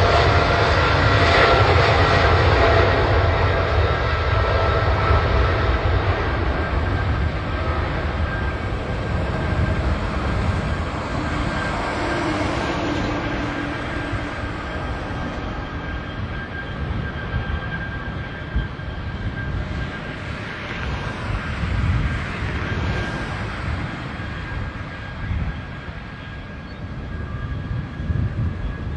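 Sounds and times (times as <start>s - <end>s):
high engine whine: 0.0s - 28.9s
jet engines rushing: 0.0s - 28.9s.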